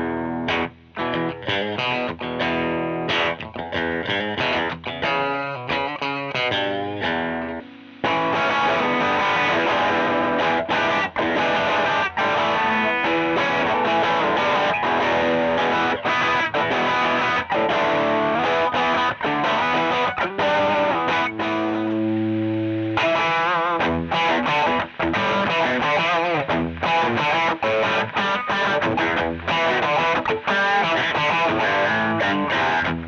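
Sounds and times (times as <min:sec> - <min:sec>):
distorted electric guitar riff: 0:00.0 - 0:33.0.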